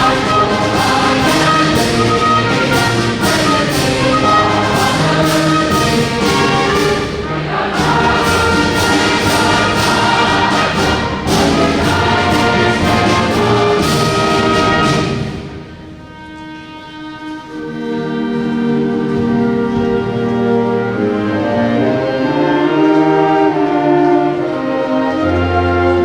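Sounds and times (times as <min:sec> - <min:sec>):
choir singing: 0:00.0 - 0:16.0, 0:17.5 - 0:26.0
orchestra and brass band: 0:00.0 - 0:26.0.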